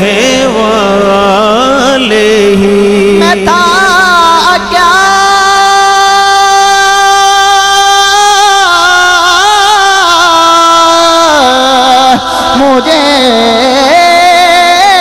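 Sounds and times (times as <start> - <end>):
man singing a long note: 0.0 - 15.0.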